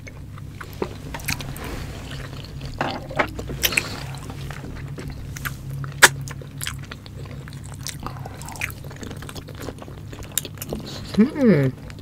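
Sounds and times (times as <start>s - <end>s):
chewing and biting: 0.0s - 12.0s.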